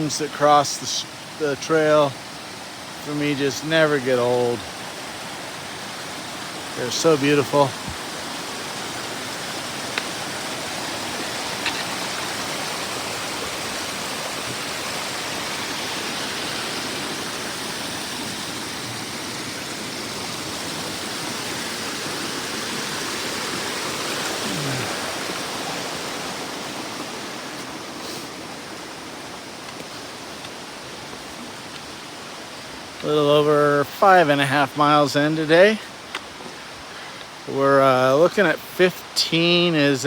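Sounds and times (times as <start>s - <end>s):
water rushing down waterfall: 0.0s - 40.0s.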